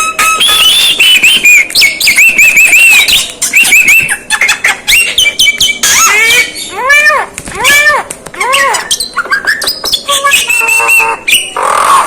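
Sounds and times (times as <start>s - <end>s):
myna bird singing: 0.0s - 6.9s, 8.4s - 12.0s.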